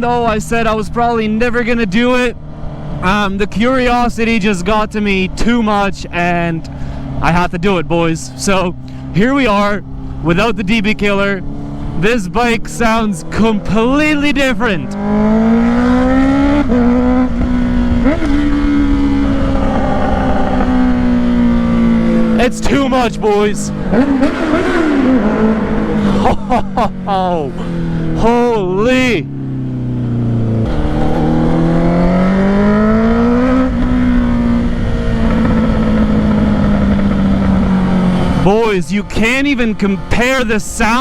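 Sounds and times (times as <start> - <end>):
loud motorcycle engine: 0.0 - 41.0.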